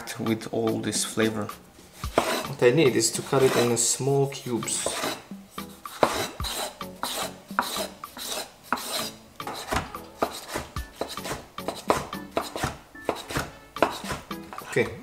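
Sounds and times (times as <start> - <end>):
knife cutting tomato on wooden board: 2.0 - 3.9, 4.5 - 15.0.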